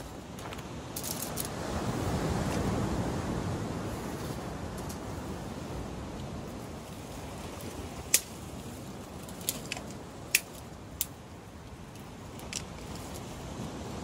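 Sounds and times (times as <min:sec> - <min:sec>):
wind and surf rushing: 0:00.0 - 0:14.0.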